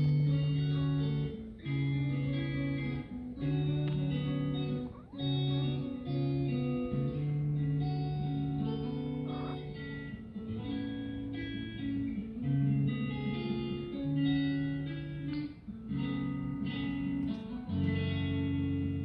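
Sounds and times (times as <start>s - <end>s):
plucked guitar phrases: 0.0s - 19.0s.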